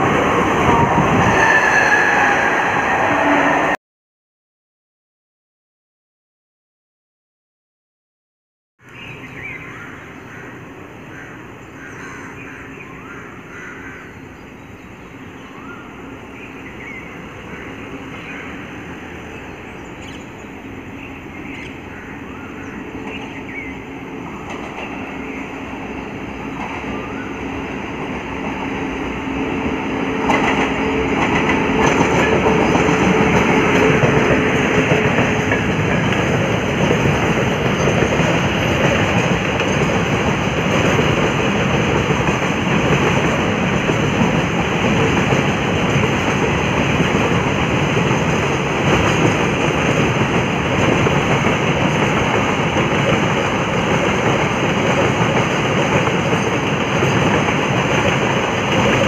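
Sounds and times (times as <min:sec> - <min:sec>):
freight train wheels rumbling: 0:00.0 - 0:03.8, 0:12.4 - 0:59.0.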